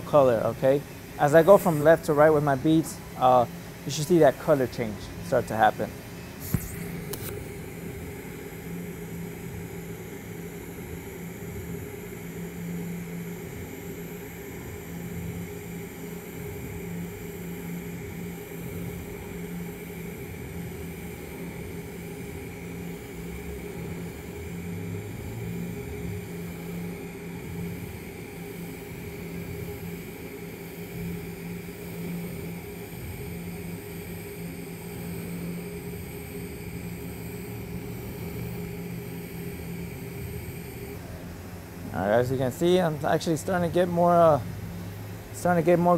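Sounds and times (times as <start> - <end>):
welding arc humming and hissing: 0.0 - 45.9.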